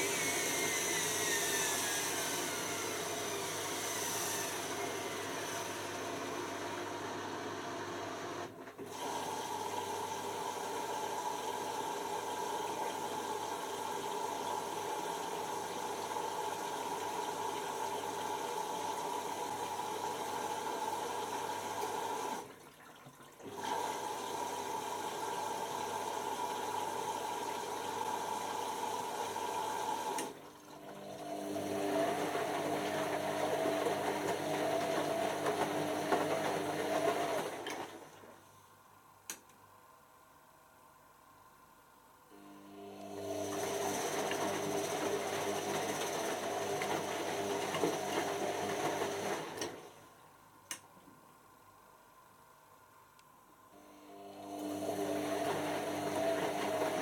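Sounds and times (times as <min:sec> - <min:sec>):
washing machine drum motor humming: 0:00.0 - 0:38.3, 0:43.0 - 0:49.9, 0:54.2 - 0:57.0.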